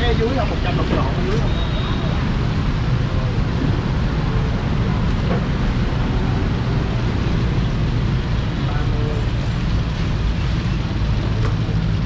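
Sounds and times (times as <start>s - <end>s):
motorbikes passing: 0.0s - 12.0s.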